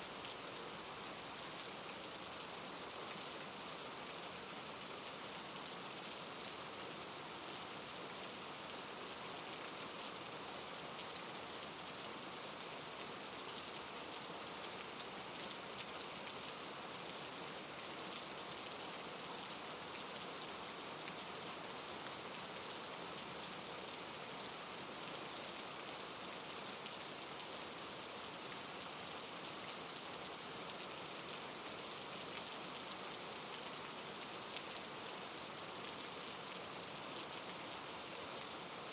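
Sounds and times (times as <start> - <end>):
soft rainfall: 0.0 - 38.9.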